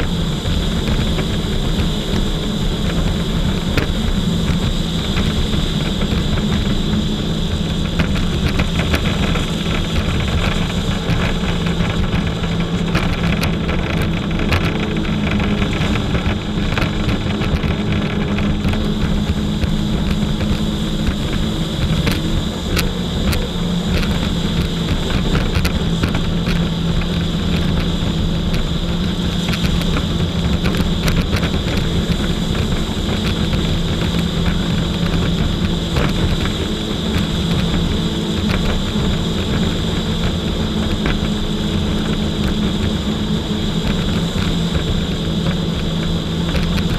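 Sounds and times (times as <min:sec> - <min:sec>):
jet ski engine running: 0:00.0 - 0:46.9.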